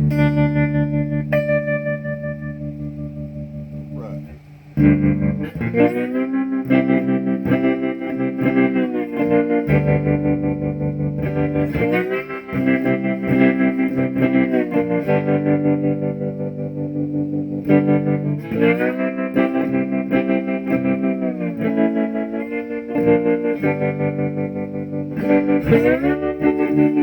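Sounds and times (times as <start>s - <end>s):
distorted blues guitar with tremolo: 0.0s - 27.0s.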